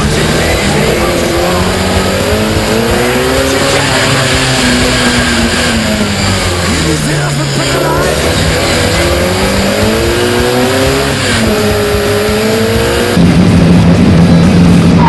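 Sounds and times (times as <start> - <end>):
car engine accelerating: 0.0 - 15.0
car engine from trackside: 0.0 - 15.0.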